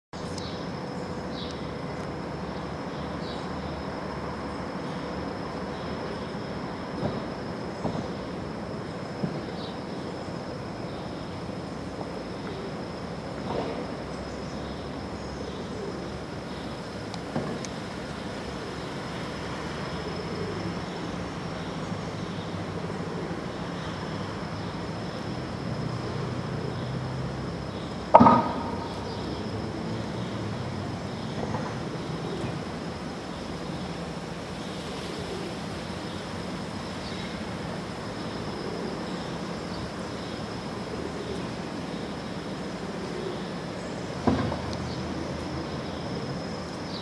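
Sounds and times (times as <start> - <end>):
distant traffic rumble: 0.2 - 47.0.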